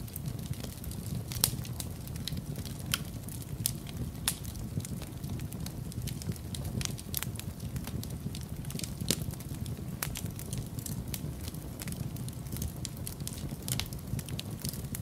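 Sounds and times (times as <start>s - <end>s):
fire popping: 0.0s - 15.0s
low fire rumble: 0.0s - 15.0s
wood fire crackling: 0.0s - 15.0s.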